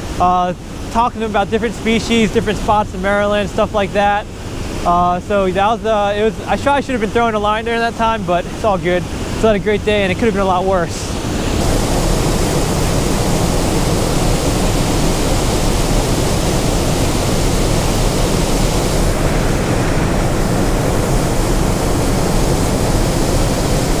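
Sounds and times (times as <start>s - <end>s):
water rushing over dam spillway: 0.0s - 24.0s.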